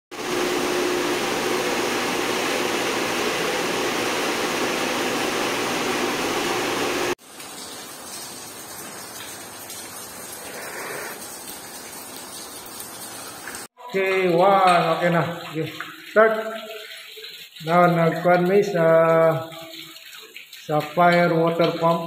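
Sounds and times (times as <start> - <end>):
water spraying from leaking pipe: 0.1 - 22.0.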